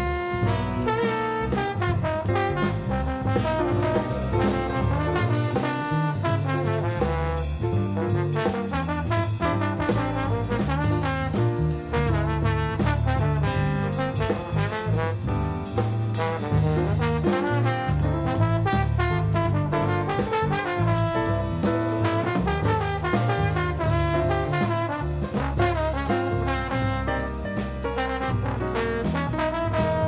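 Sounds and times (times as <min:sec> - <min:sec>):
jazz music with brass horns: 0:00.0 - 0:30.0.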